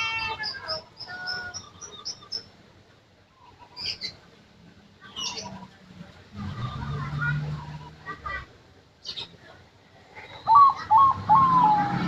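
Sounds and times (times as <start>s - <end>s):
birds chirping: 0.0s - 4.4s, 5.0s - 8.4s, 9.0s - 12.0s.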